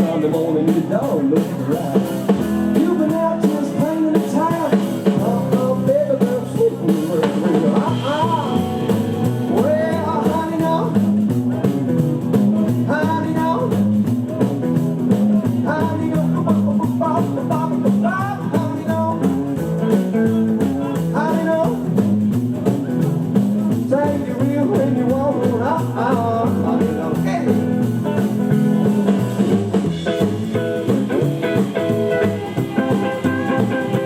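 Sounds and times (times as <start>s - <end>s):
drums: 0.0s - 34.0s
electric lead guitar phrases: 0.0s - 34.0s
stepping bass line: 0.0s - 34.0s.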